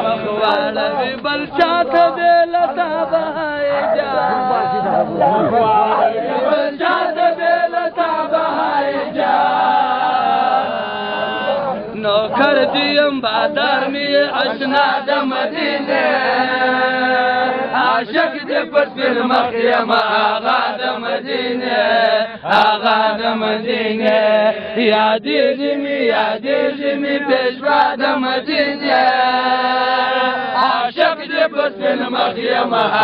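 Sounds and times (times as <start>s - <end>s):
men singing a devotional chant: 0.0s - 33.0s.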